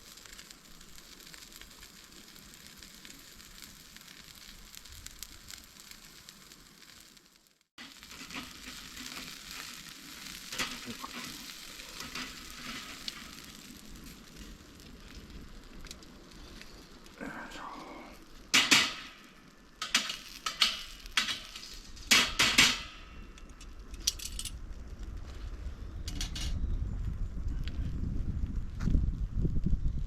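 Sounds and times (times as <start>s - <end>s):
food sizzling over a fire: 0.0s - 30.0s
light crackles: 0.0s - 30.0s.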